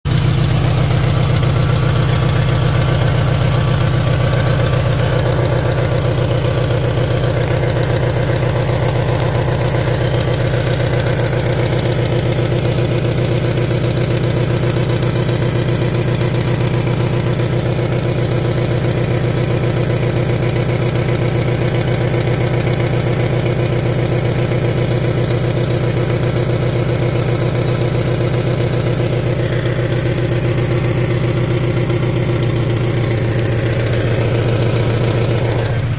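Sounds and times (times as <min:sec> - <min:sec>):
car engine idling with pulsing: 0:00.0 - 0:35.9.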